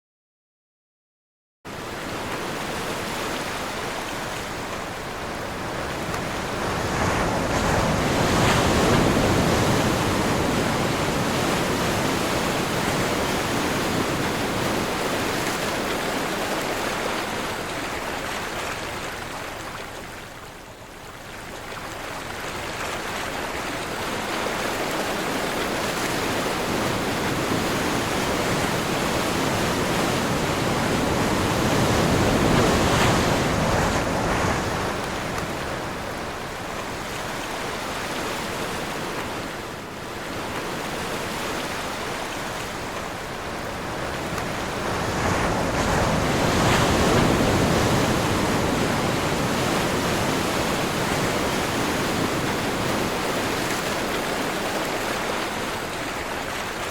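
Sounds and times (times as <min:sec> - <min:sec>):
sea waves surging: 0:01.7 - 0:56.9
wind blowing: 0:01.8 - 0:17.2, 0:25.0 - 0:55.8.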